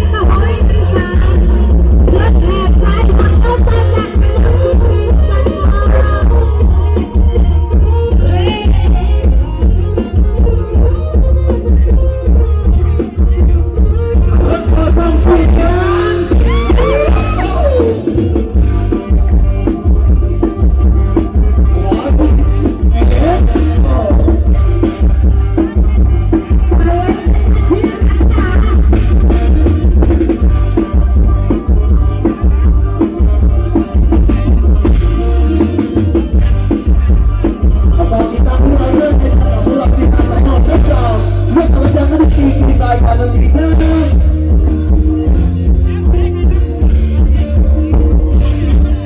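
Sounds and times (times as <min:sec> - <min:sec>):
heavy bass and drums: 0:00.0 - 0:49.0
loud live band music: 0:00.0 - 0:49.0.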